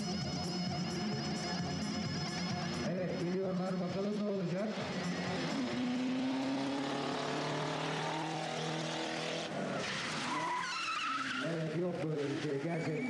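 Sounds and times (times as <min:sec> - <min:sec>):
car engine running hard: 0:00.0 - 0:10.5.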